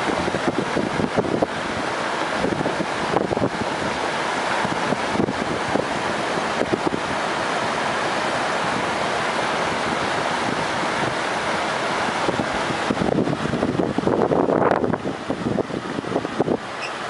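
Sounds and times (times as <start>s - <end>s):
floodwater rushing down a street: 0.0s - 17.0s
heavy rain: 0.0s - 17.0s.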